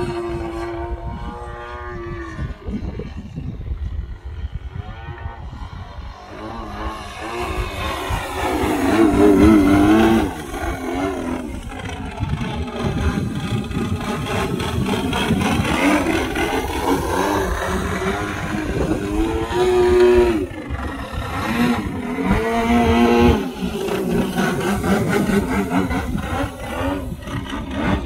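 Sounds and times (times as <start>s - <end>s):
model plane engine revving: 0.0s - 28.0s.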